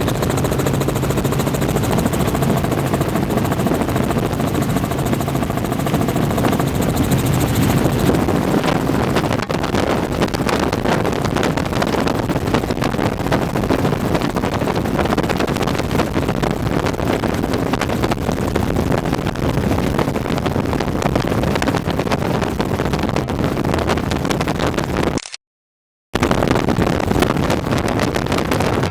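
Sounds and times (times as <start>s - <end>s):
helicopter engine and rotor: 0.0s - 23.6s, 26.2s - 28.9s
wind on microphone: 0.0s - 25.2s, 26.2s - 28.9s.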